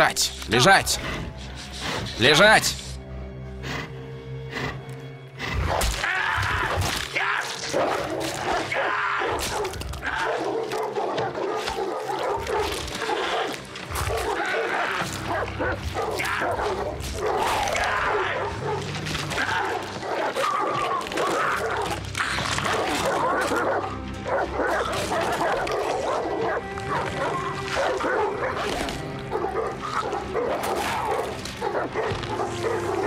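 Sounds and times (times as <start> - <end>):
music: 0.0 - 33.0
hounds snarling and growling: 3.6 - 33.0.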